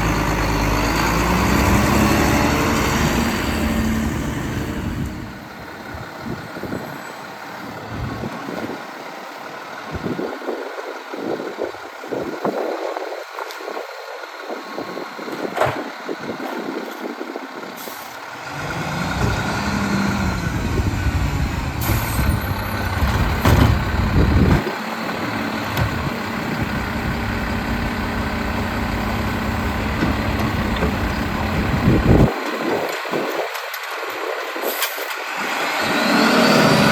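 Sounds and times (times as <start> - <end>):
garbage truck diesel engine: 0.0 - 36.9.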